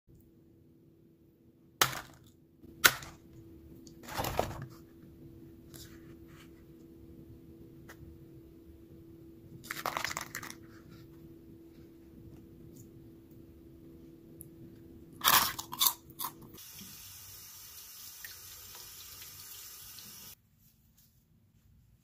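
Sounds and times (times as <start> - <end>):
faint steady hum: 0.1 - 22.0.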